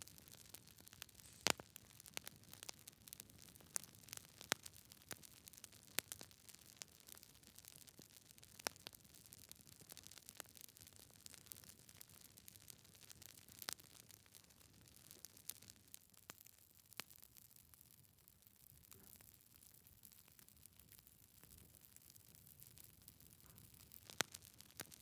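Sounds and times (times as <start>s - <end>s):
wood fire crackling and popping: 0.0s - 17.9s, 19.5s - 25.0s.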